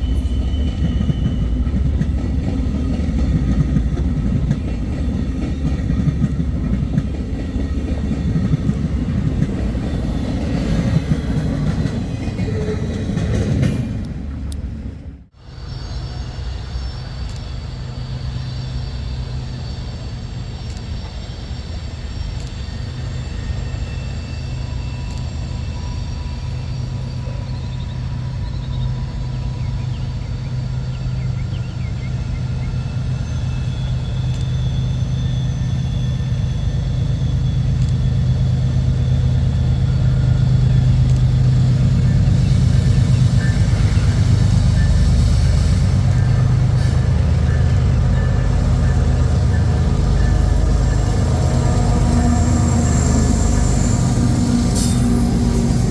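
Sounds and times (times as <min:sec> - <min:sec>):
diesel locomotive engine droning: 0:00.0 - 0:55.9.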